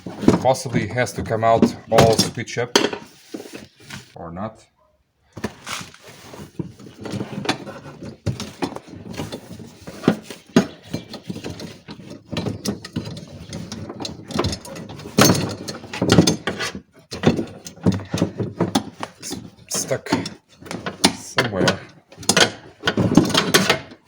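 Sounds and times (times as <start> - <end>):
metal clanking and scraping: 0.0 - 4.2, 5.4 - 24.0.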